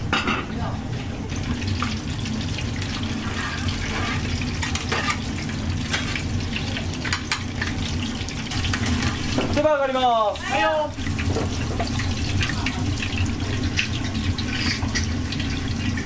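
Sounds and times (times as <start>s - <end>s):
oil sizzling in deep fryer: 0.0s - 16.0s.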